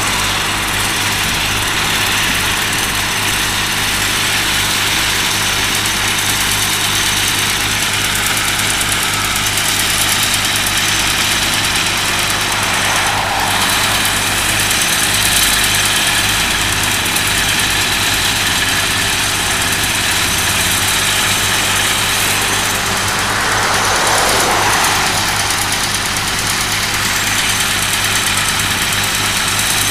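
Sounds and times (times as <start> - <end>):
excavator engine hum: 0.0 - 29.9.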